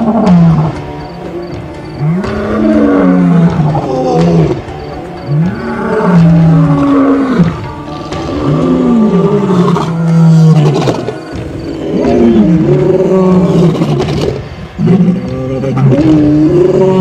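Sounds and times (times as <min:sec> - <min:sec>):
lions roaring: 0:00.0 - 0:00.8, 0:02.0 - 0:17.0.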